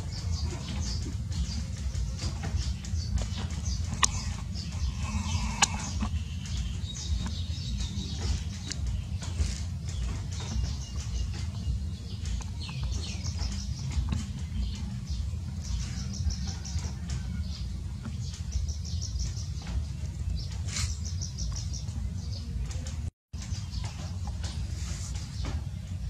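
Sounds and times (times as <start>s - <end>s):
low rumble: 0.0s - 26.0s
small birds chirping: 0.0s - 26.0s.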